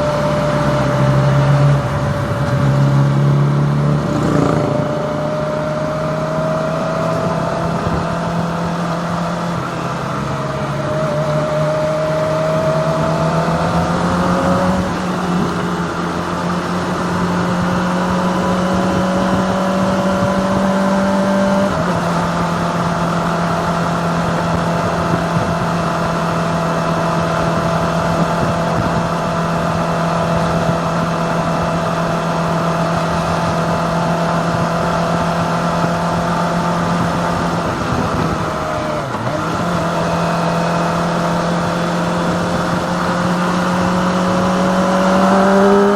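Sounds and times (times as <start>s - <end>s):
motorcycle engine running: 0.0s - 45.9s
wind and road noise: 0.0s - 45.9s.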